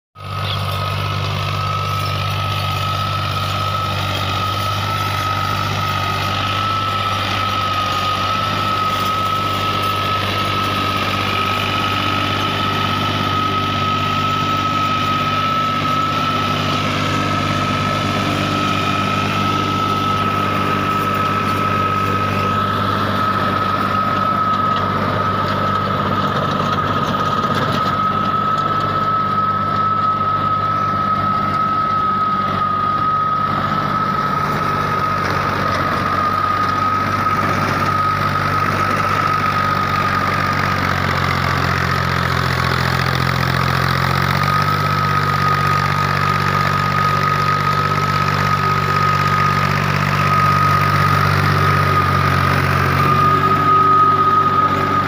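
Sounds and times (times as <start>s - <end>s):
diesel engine idling: 0.2s - 55.0s
high whine: 0.2s - 55.0s.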